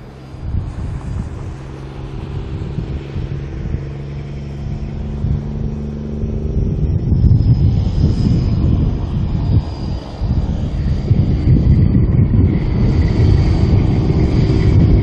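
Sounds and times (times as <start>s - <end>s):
truck diesel engine driving past: 0.0s - 15.0s.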